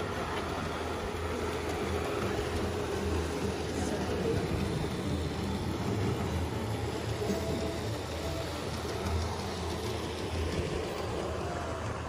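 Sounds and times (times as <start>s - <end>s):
faint steady whine: 0.0s - 12.0s
model train rumbling: 0.0s - 12.0s.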